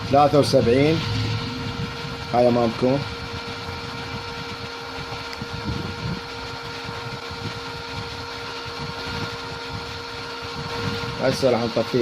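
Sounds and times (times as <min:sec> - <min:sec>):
steady electrical hum: 0:00.0 - 0:12.0
welding machine cooling fan whirring: 0:00.0 - 0:12.0.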